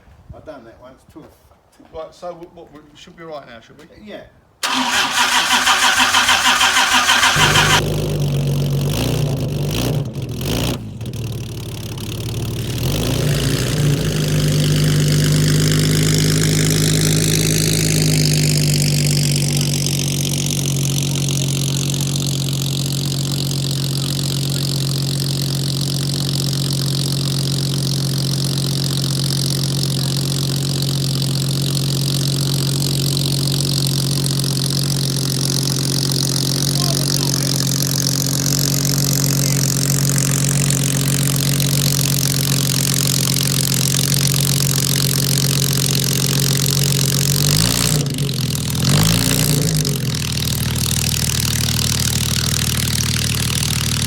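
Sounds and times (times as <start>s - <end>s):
car engine cranking and idling: 4.6s - 54.0s.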